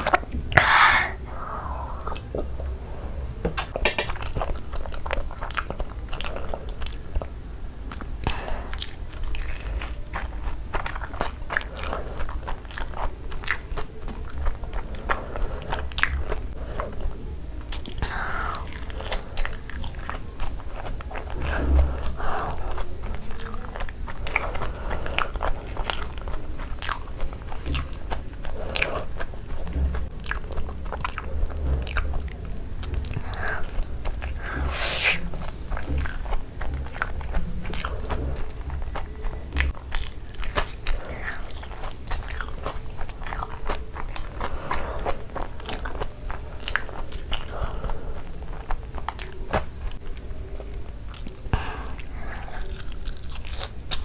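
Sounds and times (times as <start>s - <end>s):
person chewing and crunching: 0.0s - 2.8s, 3.5s - 54.0s
wet mouth sounds: 0.0s - 2.8s, 7.9s - 54.0s.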